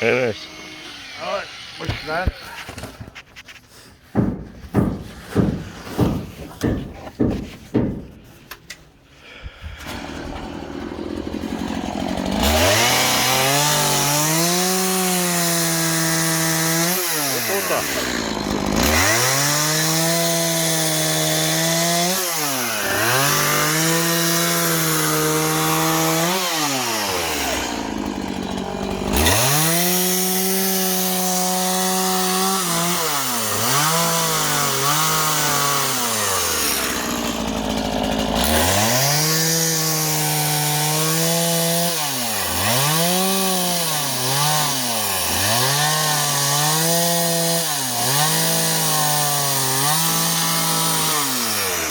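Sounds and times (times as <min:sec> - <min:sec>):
chainsaw cutting wood: 0:00.0 - 0:08.8, 0:09.4 - 0:51.9.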